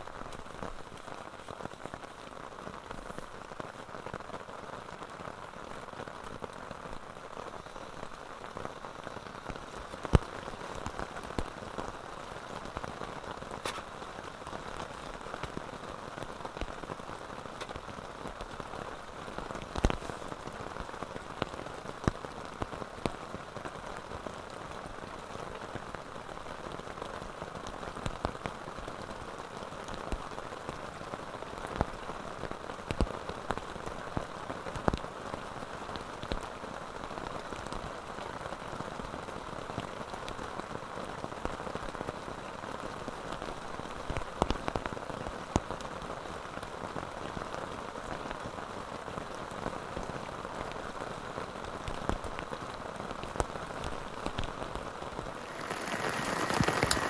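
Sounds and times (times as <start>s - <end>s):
rain on a tent: 0.0s - 57.0s.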